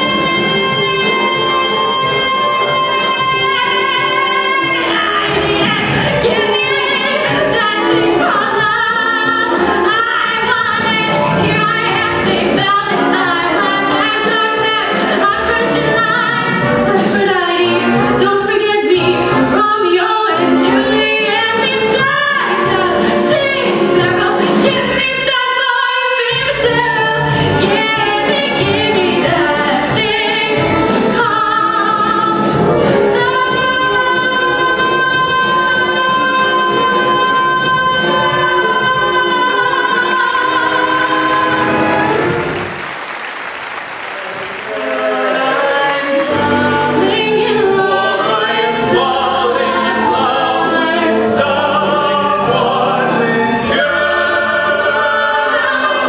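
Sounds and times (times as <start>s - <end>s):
woman singing: 0.0s - 42.2s, 45.3s - 56.0s
musical accompaniment: 0.0s - 56.0s.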